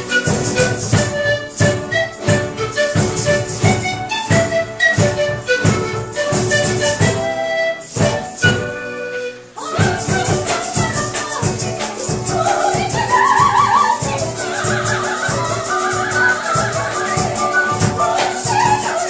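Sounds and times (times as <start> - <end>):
steady percussive beat: 0.0 - 8.7, 9.7 - 19.0.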